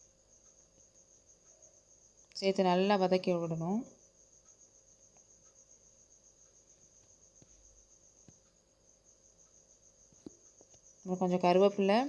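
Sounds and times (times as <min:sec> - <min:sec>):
faint ticks: 0:00.0 - 0:02.5, 0:03.2 - 0:11.2
cricket trilling: 0:00.0 - 0:12.0.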